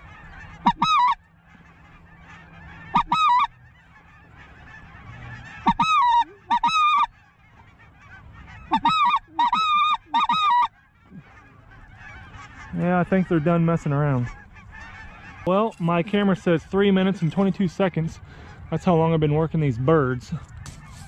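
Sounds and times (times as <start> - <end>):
goose call honks: 0.0 - 19.2
distant geese calling: 0.0 - 21.0.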